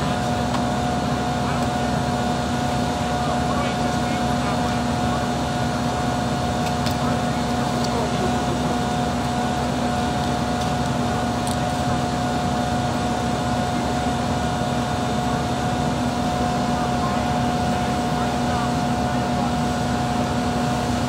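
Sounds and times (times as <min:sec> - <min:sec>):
engine droning: 0:00.0 - 0:21.0.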